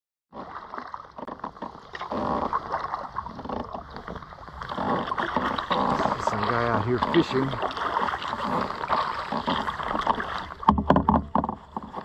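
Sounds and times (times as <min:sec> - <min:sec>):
paddle splashing: 0:00.3 - 0:12.0
water lapping against hull: 0:00.3 - 0:12.0.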